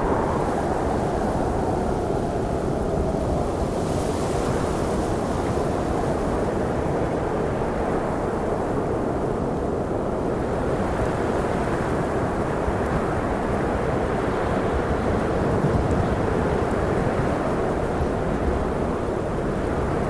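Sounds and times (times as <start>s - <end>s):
snowstorm wind blowing: 0.0s - 20.0s.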